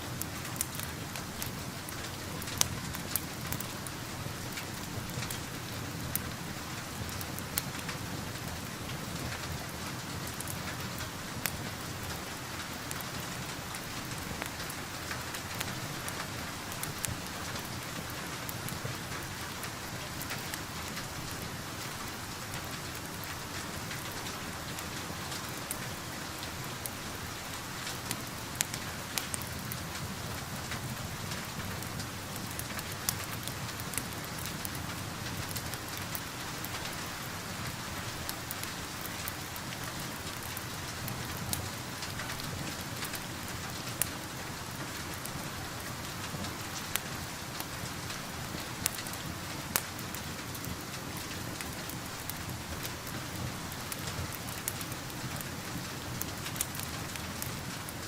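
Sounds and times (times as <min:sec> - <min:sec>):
steady rain falling: 0:00.0 - 0:58.0
wood fire crackling: 0:00.1 - 0:58.0.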